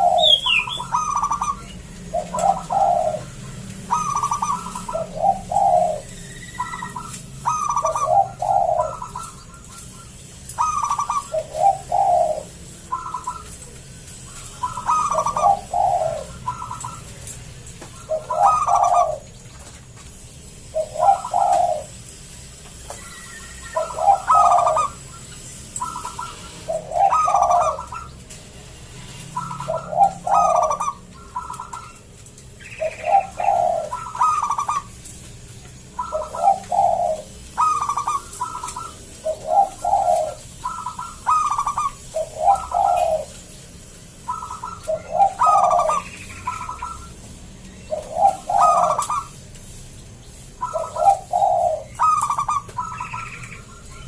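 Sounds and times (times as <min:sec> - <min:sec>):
dove cooing: 0:00.0 - 0:19.4, 0:20.6 - 0:22.0, 0:22.9 - 0:28.2, 0:29.2 - 0:35.0, 0:35.7 - 0:43.5, 0:44.1 - 0:49.4, 0:50.5 - 0:54.0.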